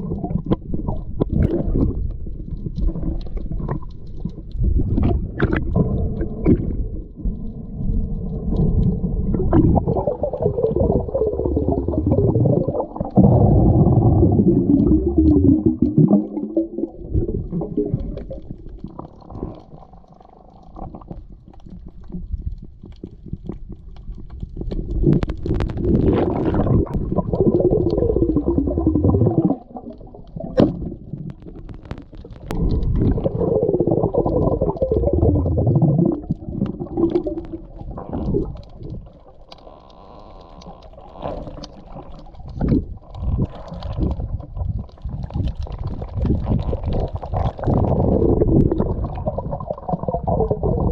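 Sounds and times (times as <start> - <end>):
muffled underwater rumbling: 0.0 - 50.9.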